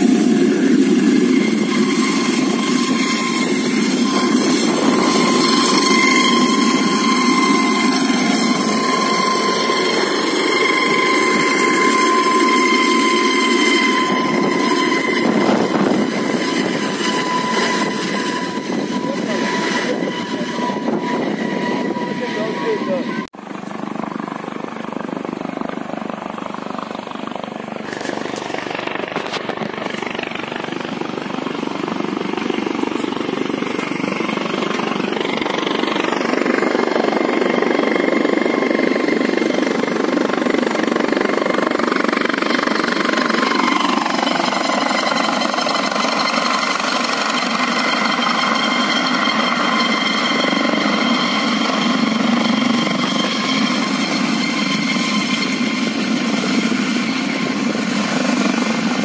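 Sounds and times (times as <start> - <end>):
helicopter rotor chop: 0.0 - 59.0
helicopter turbine whine: 0.0 - 59.0.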